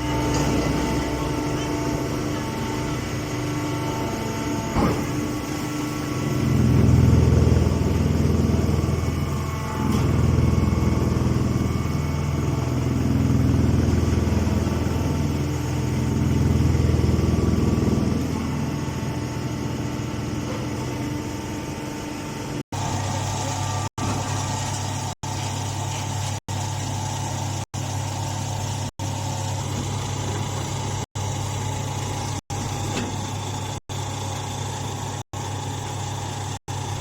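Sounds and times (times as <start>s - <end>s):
baler machine motor hum: 0.0s - 37.0s.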